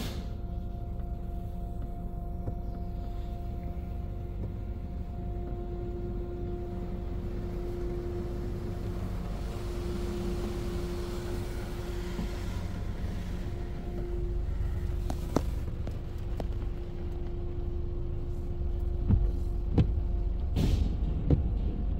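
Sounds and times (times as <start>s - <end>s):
motor whine: 0.0s - 19.3s
car wash low rumble: 0.0s - 21.9s.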